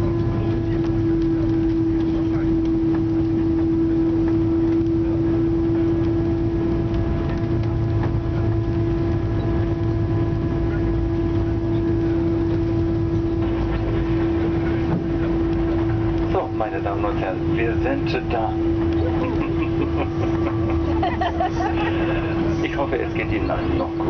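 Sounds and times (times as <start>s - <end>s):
low rumble: 0.0s - 24.0s
steady hum: 0.0s - 24.0s.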